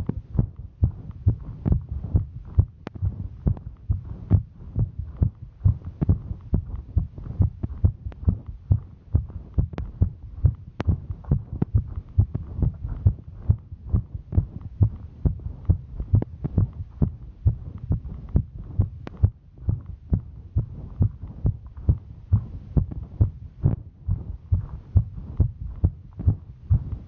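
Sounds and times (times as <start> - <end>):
rapid heartbeat thumps: 0.0 - 27.0.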